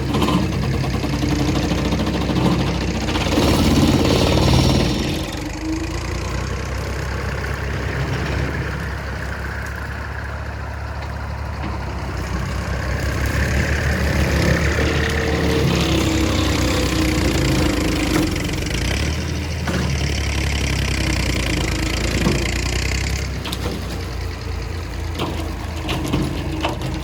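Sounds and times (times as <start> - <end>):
small tractor engine running: 0.0 - 27.0.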